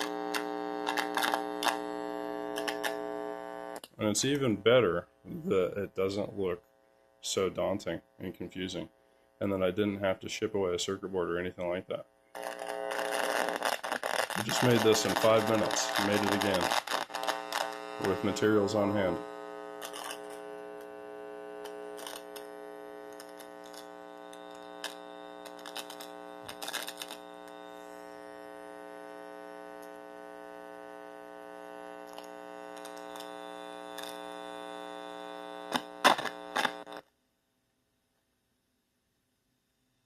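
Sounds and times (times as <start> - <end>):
crackles and pops: 0.0 - 6.5, 11.6 - 37.2
amplifier electrical buzz: 0.0 - 37.2.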